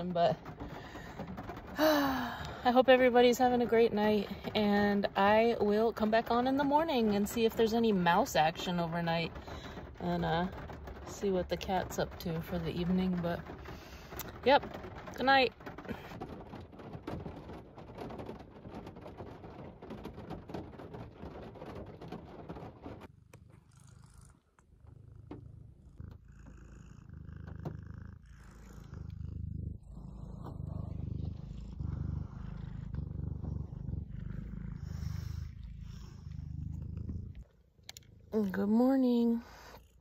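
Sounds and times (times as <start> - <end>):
cat purring: 0.0 - 17.5, 20.8 - 40.0
crackly rustling noise: 0.0 - 40.0.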